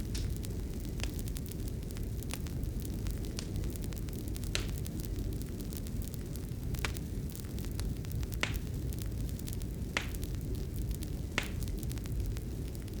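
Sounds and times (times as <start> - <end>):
fire burning in fireplace: 0.0 - 13.0
fire popping: 0.0 - 13.0.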